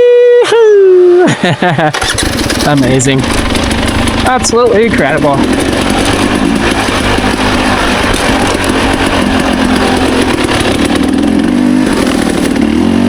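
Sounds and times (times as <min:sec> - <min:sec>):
dirt bike engine running: 0:02.0 - 0:13.0.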